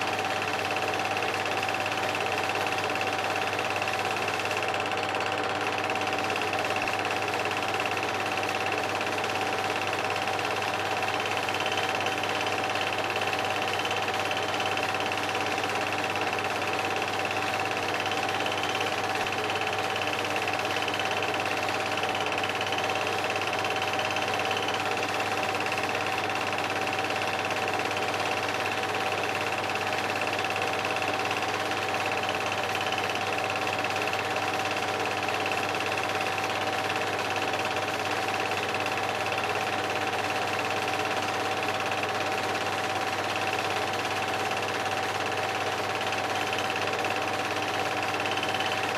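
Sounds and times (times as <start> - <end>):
film projector whirring: 0.0 - 48.9.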